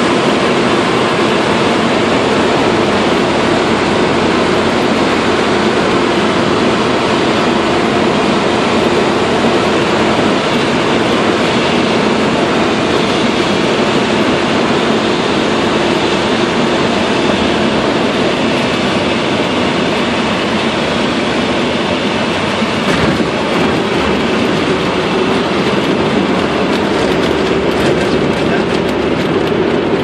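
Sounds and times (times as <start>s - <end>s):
propeller aircraft engine in cockpit: 0.0s - 30.0s.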